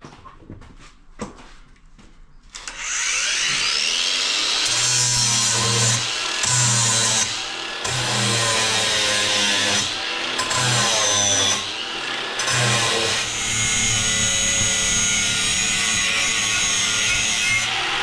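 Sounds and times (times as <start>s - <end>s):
angle grinder cutting metal: 2.6s - 18.0s.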